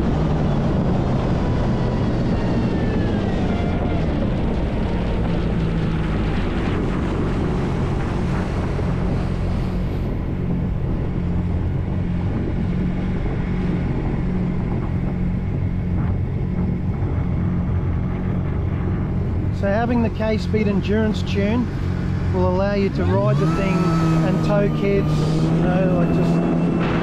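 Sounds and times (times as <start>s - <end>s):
jet ski engine: 0.0s - 27.0s
wind and water rushing: 0.0s - 27.0s.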